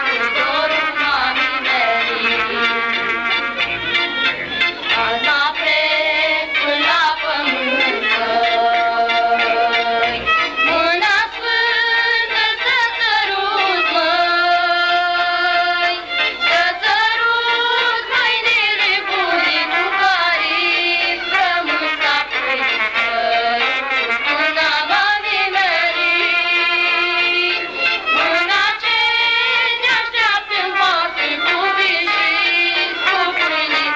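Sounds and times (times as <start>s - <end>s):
person singing folk melody: 0.0s - 33.9s.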